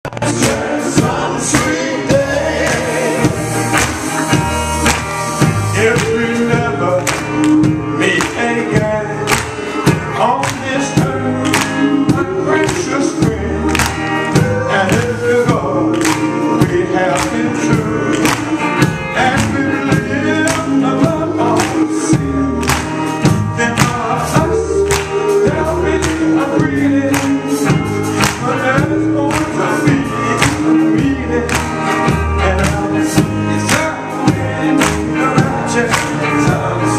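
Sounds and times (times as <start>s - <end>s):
bass: 0.0s - 36.9s
male vocal quartet singing gospel: 0.1s - 36.9s
steady percussion beat: 0.1s - 36.9s.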